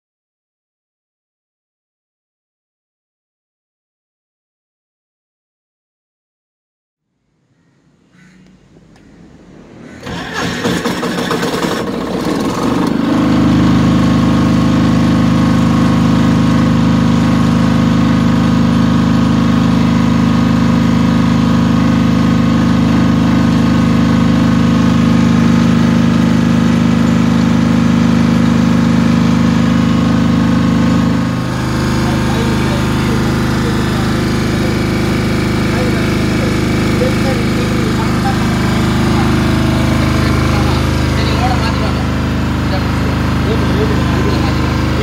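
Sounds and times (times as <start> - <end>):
generator engine cranking and running: 8.0 - 45.0.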